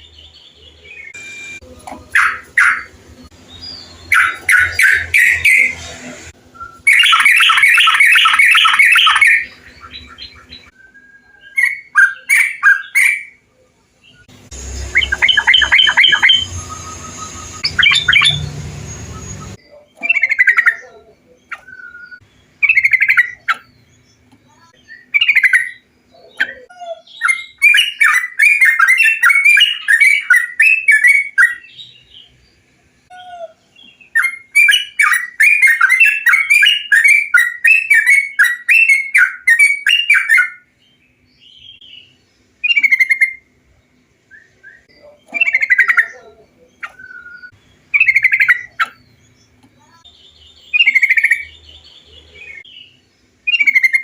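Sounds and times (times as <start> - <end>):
rapid chattering birdsong: 2.0 - 10.8, 14.0 - 54.0.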